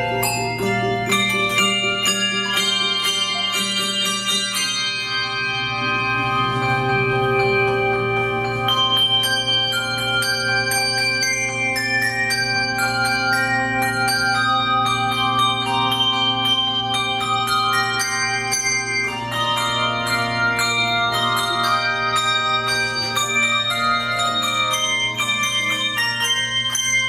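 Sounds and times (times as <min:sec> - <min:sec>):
handbell choir playing: 0:00.0 - 0:27.0.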